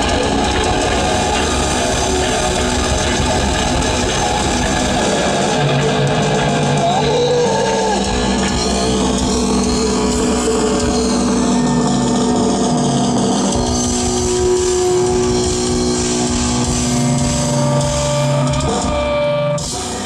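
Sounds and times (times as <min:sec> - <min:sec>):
death metal band playing live: 0:00.0 - 0:20.0
loud dense electric guitars: 0:00.0 - 0:20.0.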